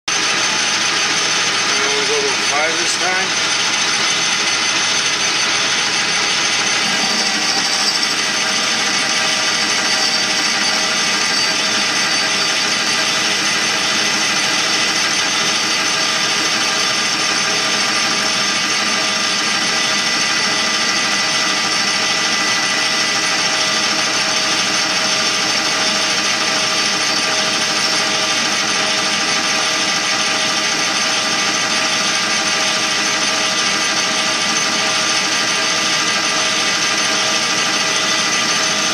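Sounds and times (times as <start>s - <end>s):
metal lathe whine: 0.1s - 38.9s.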